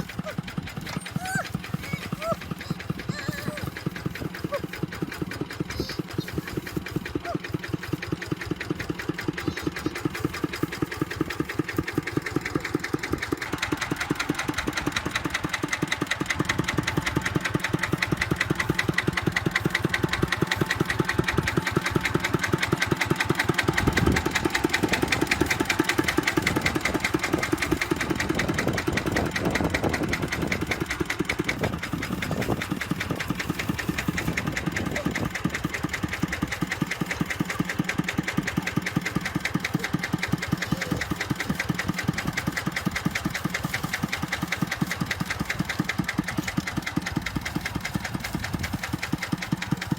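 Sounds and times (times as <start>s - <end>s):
tractor engine chugging: 0.0s - 49.9s.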